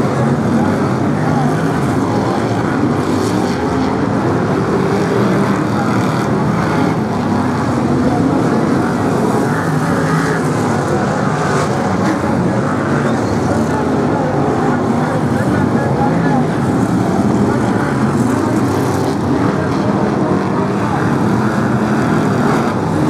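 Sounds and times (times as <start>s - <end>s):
racing car engines roaring: 0.0s - 23.0s.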